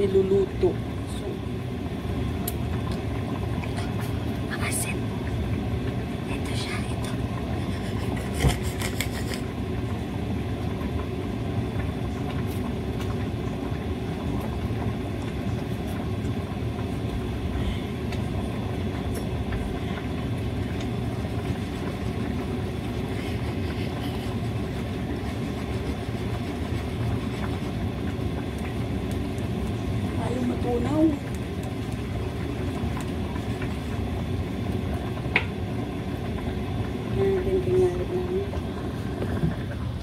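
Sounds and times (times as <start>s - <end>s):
low mechanical rumble: 0.0s - 40.0s.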